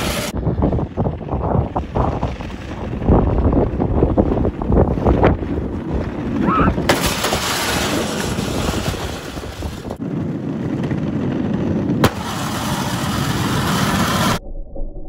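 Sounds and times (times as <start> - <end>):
go-cart engine running: 0.0 - 14.4.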